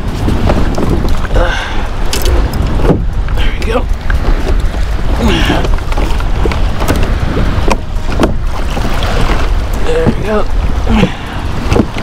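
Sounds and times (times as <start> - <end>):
water slapping against kayak hull: 0.0 - 12.0
wind buffeting microphone: 0.0 - 12.0.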